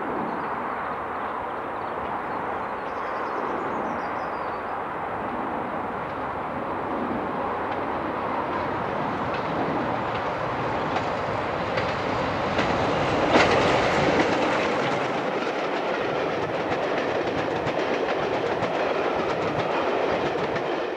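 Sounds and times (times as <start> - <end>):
steam train passing: 0.0 - 20.9.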